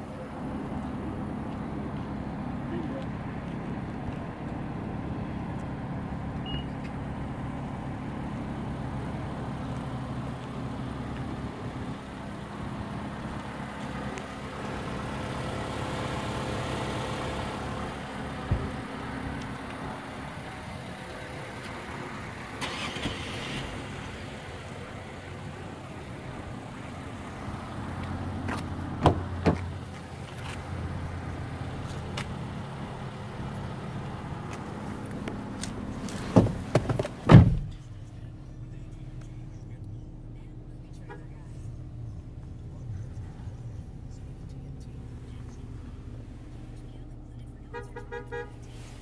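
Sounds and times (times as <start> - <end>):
engine idling: 0.0 - 49.0.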